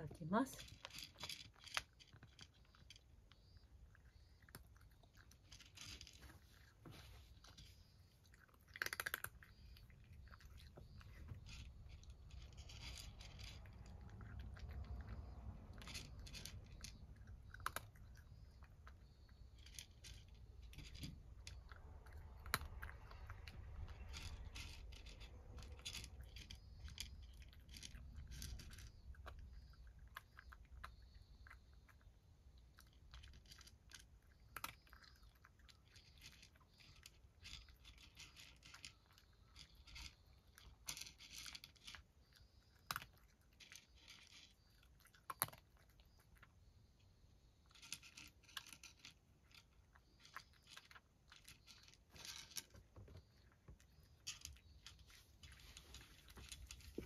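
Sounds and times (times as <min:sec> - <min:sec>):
cat crunching dry kibble: 0:00.0 - 0:46.7, 0:47.4 - 0:57.0.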